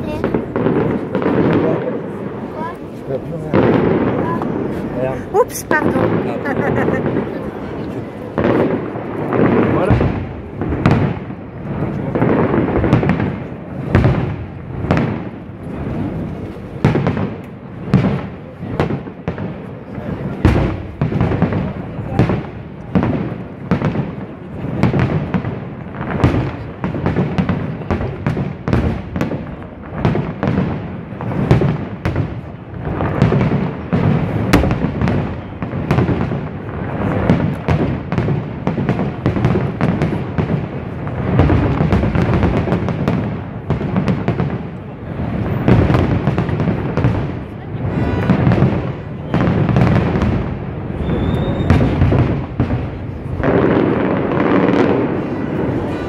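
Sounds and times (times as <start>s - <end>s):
fireworks booming: 0.0s - 56.0s.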